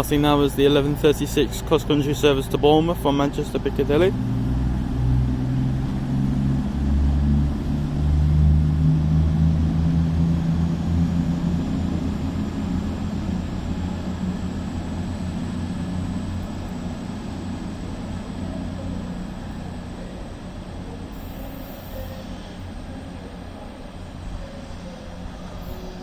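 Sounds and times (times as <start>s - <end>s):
diesel train engines droning: 0.0s - 26.0s.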